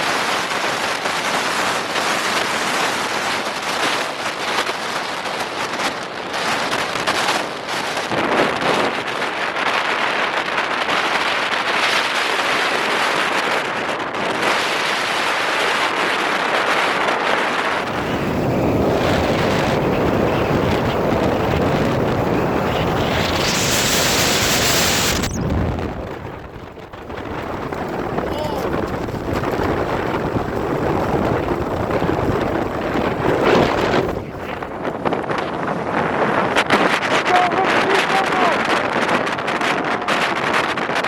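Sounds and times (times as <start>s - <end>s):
strong wind gusting on microphone: 0.0s - 41.0s.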